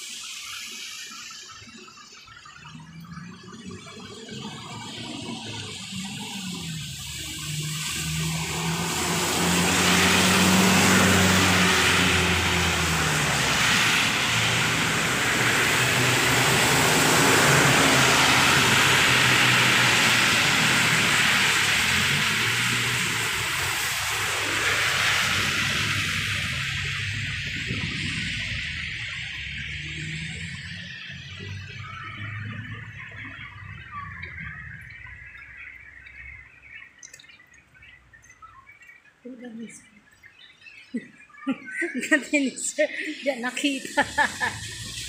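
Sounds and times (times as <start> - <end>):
tyres hissing on wet asphalt: 0.0 - 37.9, 41.9 - 45.0
large vehicle engine hum: 2.6 - 39.7.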